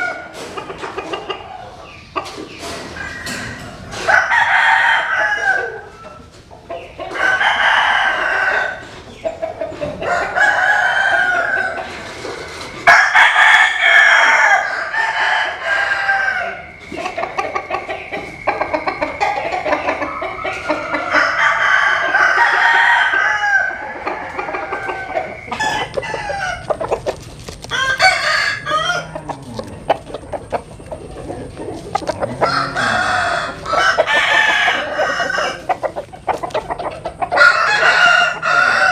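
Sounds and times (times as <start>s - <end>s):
chickens clucking: 0.0s - 38.9s
roosters crowing: 0.0s - 38.9s.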